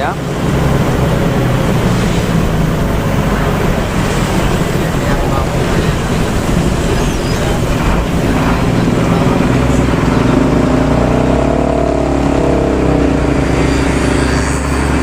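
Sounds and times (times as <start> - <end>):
bus diesel engine droning: 0.0 - 15.0
steady low rumble: 0.0 - 15.0.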